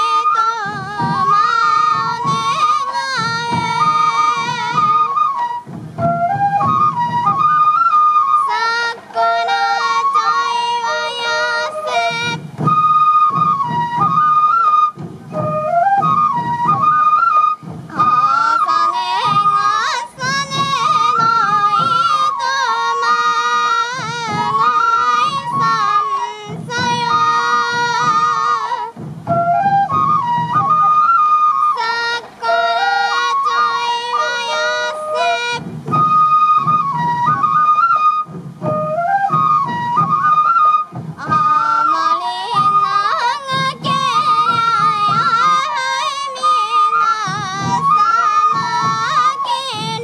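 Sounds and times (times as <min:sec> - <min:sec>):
bamboo flute melody: 0:00.0 - 0:50.0
taiko drums beating: 0:00.0 - 0:50.0.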